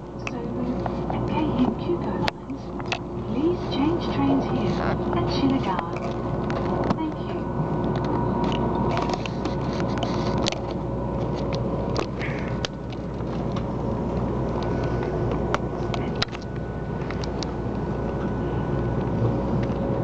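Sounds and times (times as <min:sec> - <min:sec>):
train rumble inside carriage: 0:00.0 - 0:20.0.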